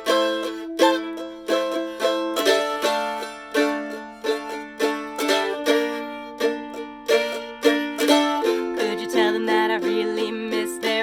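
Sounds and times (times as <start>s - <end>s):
mandolin picked chords: 0.0s - 11.0s.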